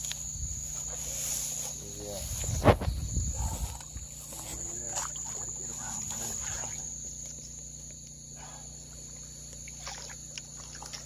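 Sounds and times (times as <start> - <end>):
crickets trilling: 0.0 - 11.0
low steady hum: 0.0 - 11.0.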